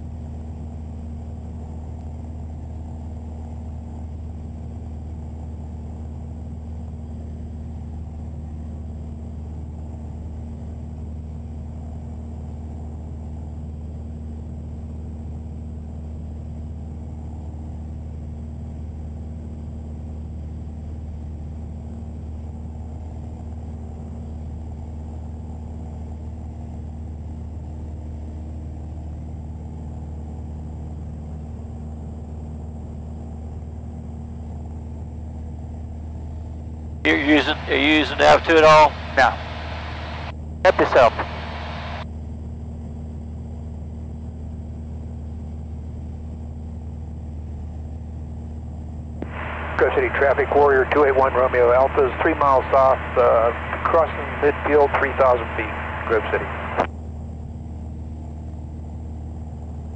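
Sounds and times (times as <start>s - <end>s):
airplane engine droning: 0.0s - 59.9s.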